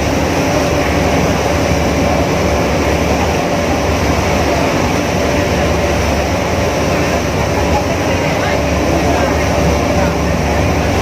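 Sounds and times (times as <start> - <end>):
ferry engine drone: 0.0 - 11.0
steady rushing noise: 0.0 - 11.0.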